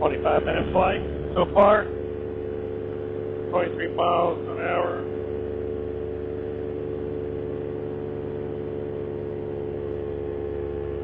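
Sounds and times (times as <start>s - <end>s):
paramotor engine droning: 0.0s - 11.0s.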